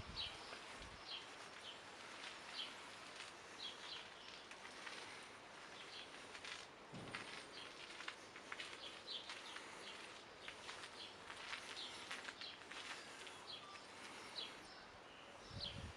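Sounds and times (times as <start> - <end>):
small birds chirping: 0.0 - 15.9.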